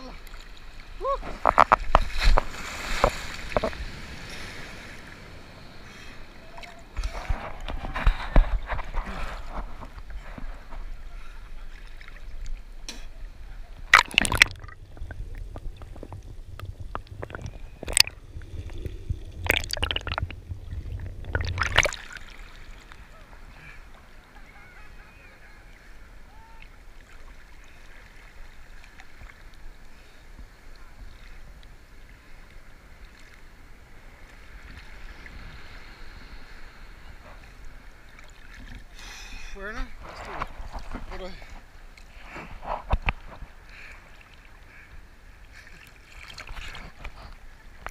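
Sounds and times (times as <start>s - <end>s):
foam and shallow water washing: 0.0s - 47.9s
low rumble of surf: 0.0s - 47.9s
sea water splashing and sloshing: 0.0s - 47.9s.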